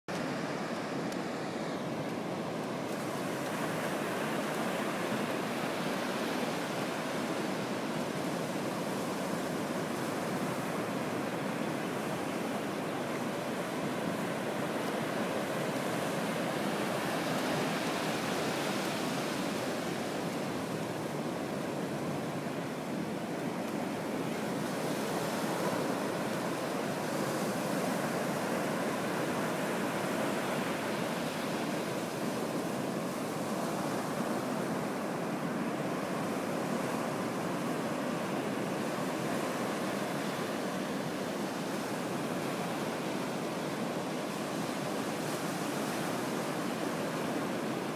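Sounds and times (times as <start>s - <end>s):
waves breaking on a beach: 0.1s - 47.9s.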